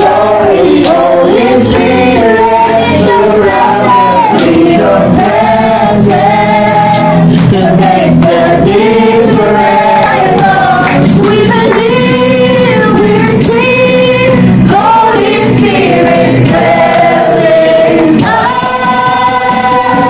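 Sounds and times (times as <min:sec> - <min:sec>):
group of people singing: 0:00.0 - 0:20.0
karaoke backing track: 0:00.0 - 0:20.0.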